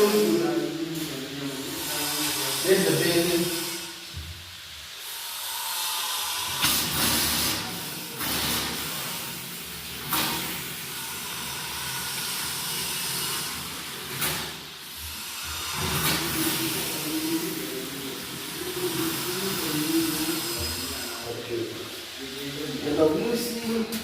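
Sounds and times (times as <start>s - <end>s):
water gushing from a tap: 0.0s - 24.0s.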